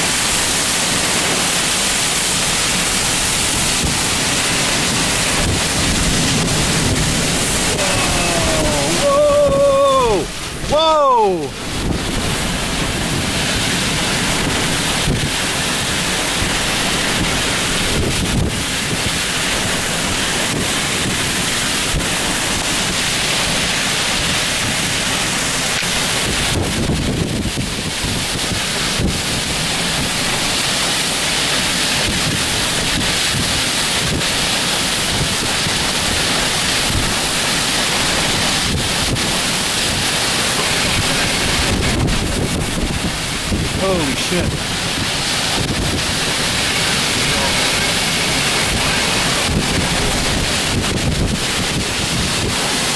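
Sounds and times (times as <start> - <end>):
strong wind buffeting microphone: 0.0 - 52.9.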